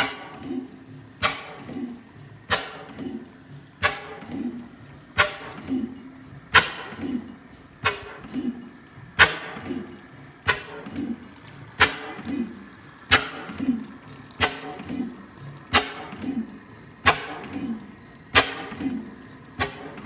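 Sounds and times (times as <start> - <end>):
oil engine clacking and thumping: 0.0 - 20.0.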